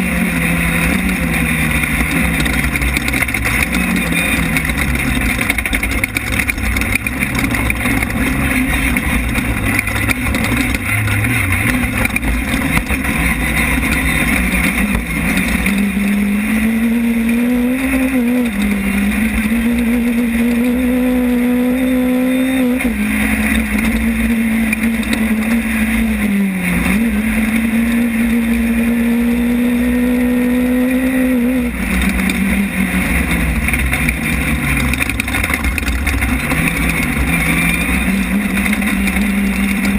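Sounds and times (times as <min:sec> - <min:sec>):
race car engine running hard: 0:00.0 - 0:39.9
road and rattle noise: 0:00.0 - 0:39.9.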